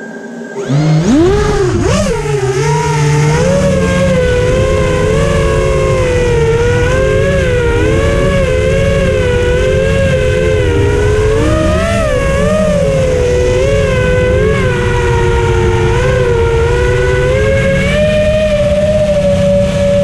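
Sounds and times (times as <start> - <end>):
drone motors whining: 0.0 - 20.0
low rushing noise: 0.0 - 20.0.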